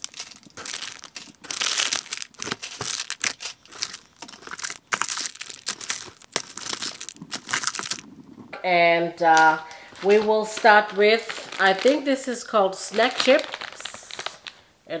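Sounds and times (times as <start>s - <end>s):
plastic wrappers crinkling: 0.0s - 8.2s, 9.2s - 14.7s.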